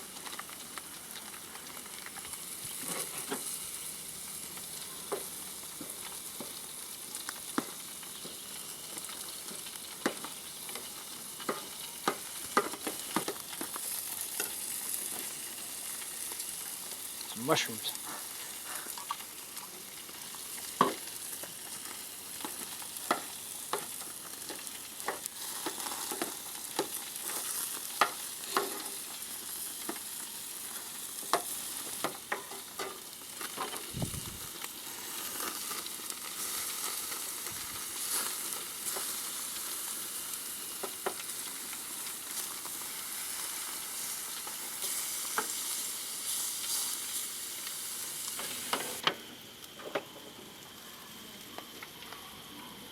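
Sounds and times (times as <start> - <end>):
mushrooms sizzling in a pan: 0.0 - 52.9.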